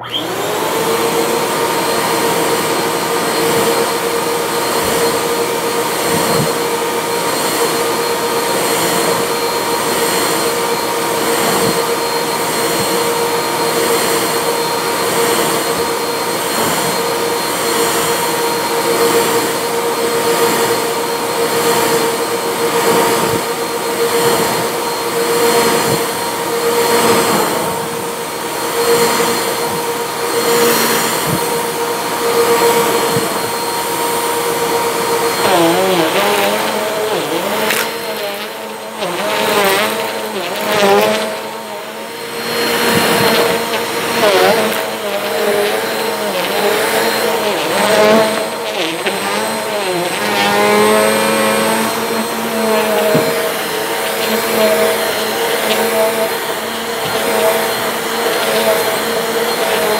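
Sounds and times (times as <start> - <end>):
upright vacuum cleaner running: 0.0 - 59.9.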